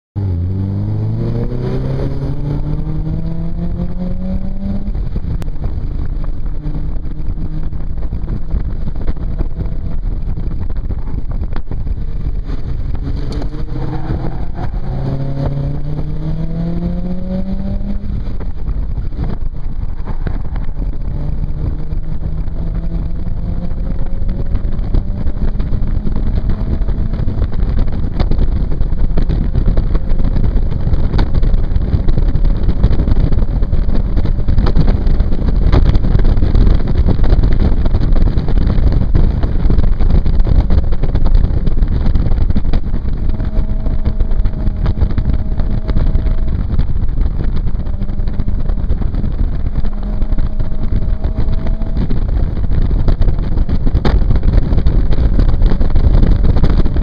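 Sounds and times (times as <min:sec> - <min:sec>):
car engine revving: 0:00.2 - 0:57.0.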